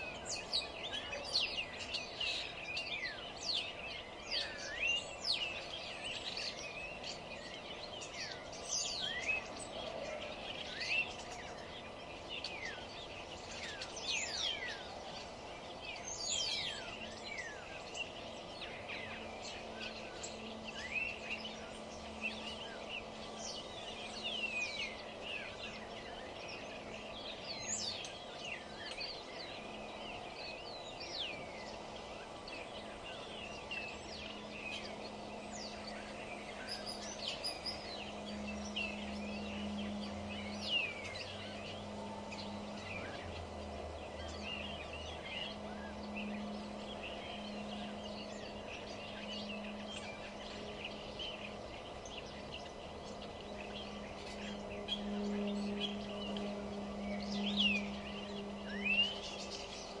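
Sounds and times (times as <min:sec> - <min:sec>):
songbirds chirping: 0:00.0 - 1:00.0
steady low hum: 0:00.0 - 1:00.0.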